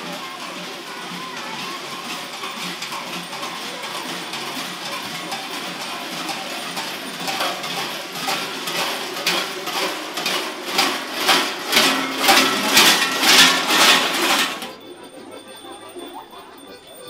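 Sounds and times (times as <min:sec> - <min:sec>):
heavy bells clanging: 0:00.0 - 0:17.0.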